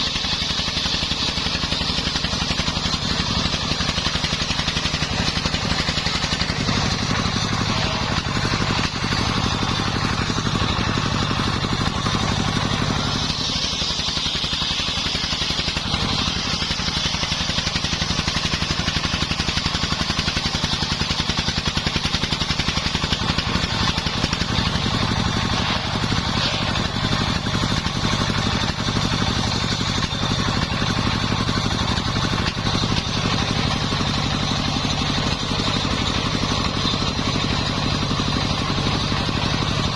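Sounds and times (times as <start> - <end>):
engine humming: 0.0 - 39.9
saw blade whining through timber: 0.0 - 39.9.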